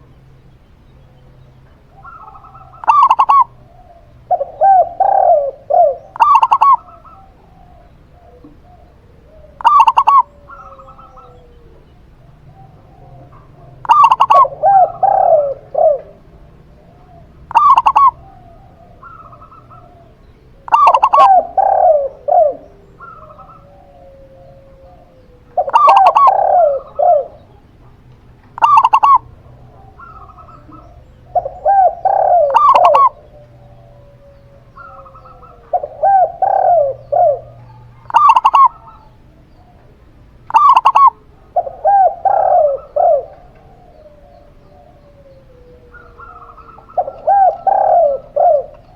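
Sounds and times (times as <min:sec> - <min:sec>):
doves cooing: 0:00.0 - 0:48.9.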